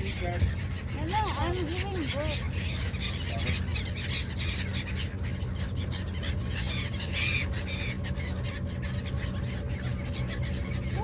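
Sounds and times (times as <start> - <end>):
boat engine droning: 0.0 - 11.0
seagulls squawking: 0.0 - 11.0.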